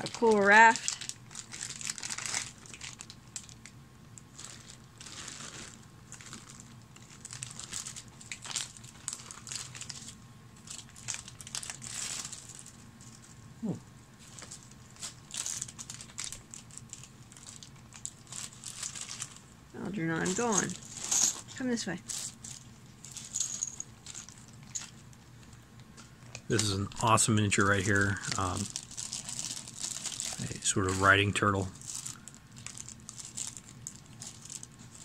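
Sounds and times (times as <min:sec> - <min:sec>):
plastic bags crinkling: 0:00.0 - 0:35.0.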